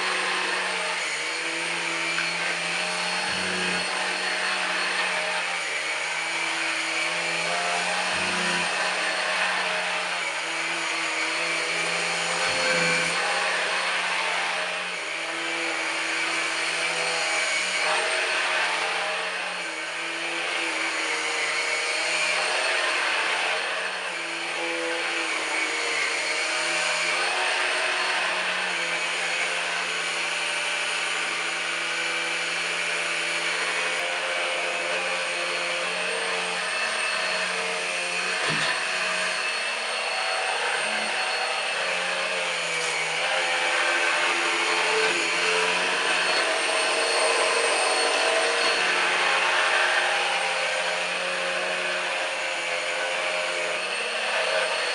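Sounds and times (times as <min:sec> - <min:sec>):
stick vacuum running: 0:00.0 - 0:54.9.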